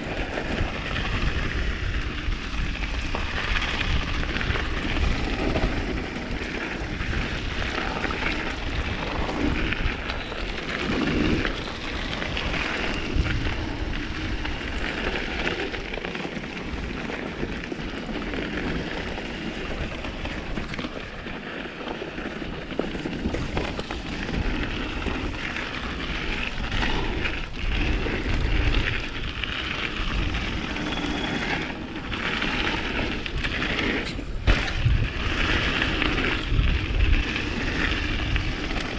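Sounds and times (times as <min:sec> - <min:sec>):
wind rushing over microphone: 0:00.0 - 0:21.4, 0:22.4 - 0:38.9
bike rattling: 0:00.0 - 0:38.9
bike tyres crackling over gravel: 0:00.0 - 0:38.9.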